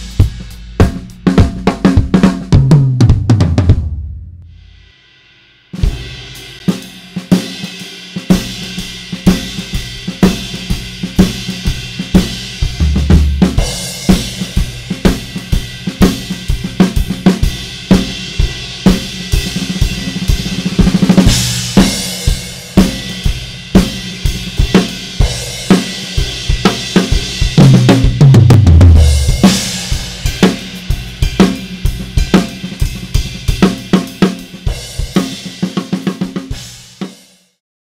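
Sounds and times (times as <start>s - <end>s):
tom fill: 0.0s - 37.3s
drum kit groove: 0.0s - 37.6s.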